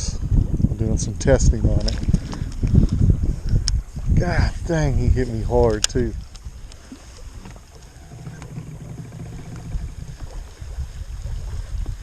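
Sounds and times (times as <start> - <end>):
water and wind rumble: 0.0 - 12.0.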